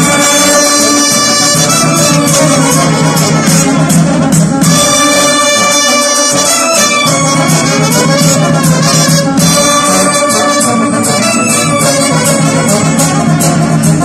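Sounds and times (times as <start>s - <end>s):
bass drum: 0.0s - 14.0s
trumpets and brass horns: 0.0s - 14.0s.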